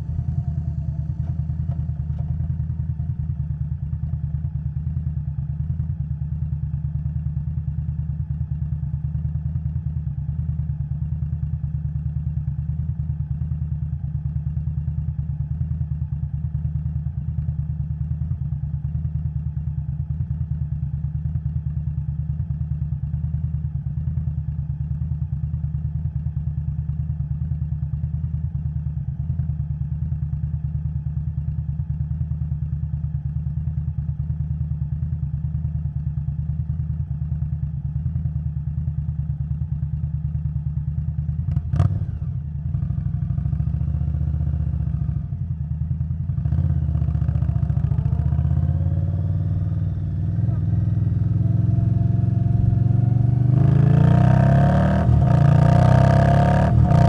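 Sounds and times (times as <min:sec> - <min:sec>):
motorcycle engine running steadily: 0:00.0 - 0:57.0.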